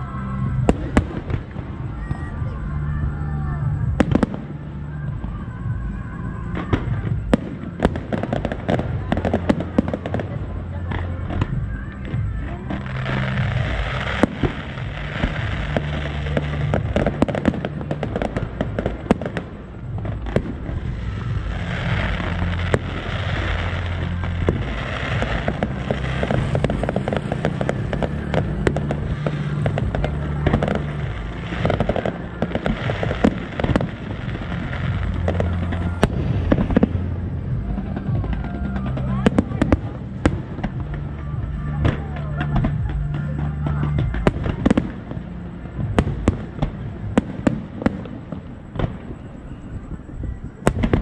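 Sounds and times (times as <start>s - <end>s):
fireworks bangs and crackles: 0.0s - 51.0s
steady low rumble: 0.0s - 51.0s.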